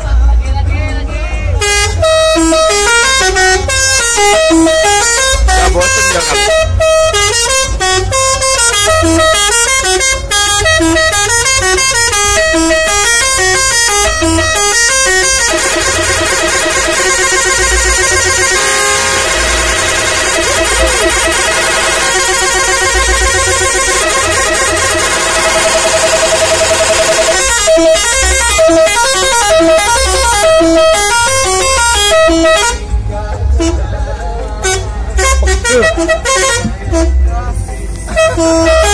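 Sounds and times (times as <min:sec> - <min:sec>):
multi-tone air horn melody: 0:01.5 - 0:32.9, 0:33.5 - 0:34.0, 0:34.6 - 0:38.9.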